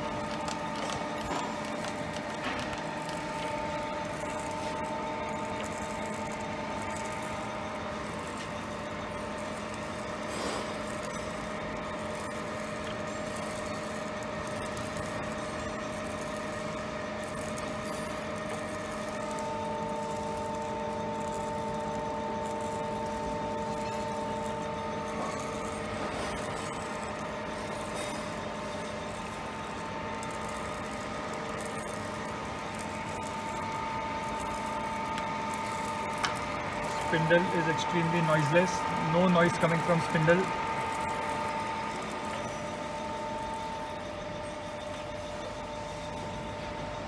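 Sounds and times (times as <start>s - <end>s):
grinder humming: 0.0s - 46.8s.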